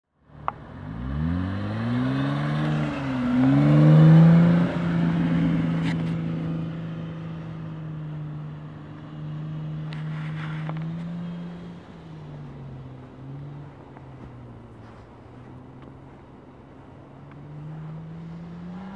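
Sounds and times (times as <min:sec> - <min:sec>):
car engine accelerating: 0:00.2 - 0:18.9.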